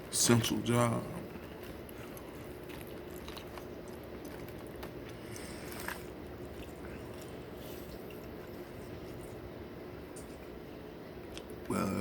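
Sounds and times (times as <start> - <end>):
faint steady hum: 0.0 - 12.0
person chewing food: 1.2 - 12.0.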